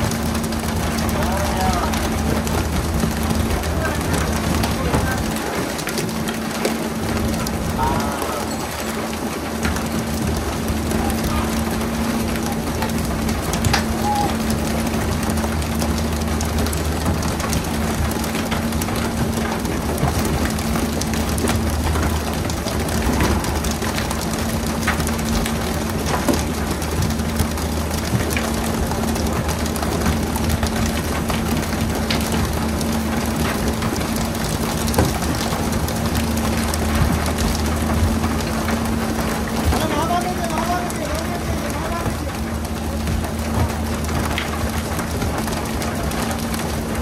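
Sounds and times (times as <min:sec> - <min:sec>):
boat engine humming: 0:00.0 - 0:47.0
water splashing: 0:00.0 - 0:47.0.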